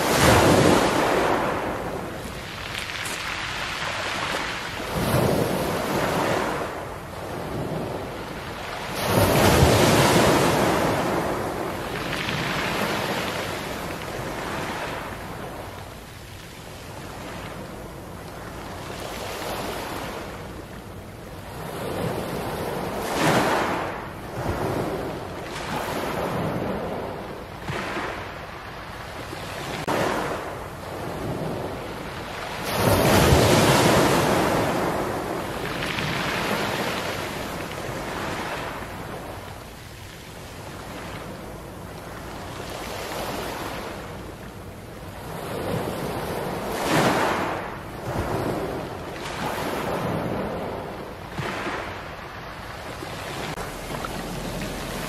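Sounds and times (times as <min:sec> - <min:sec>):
waves rolling pebbles: 0:00.0 - 0:55.0.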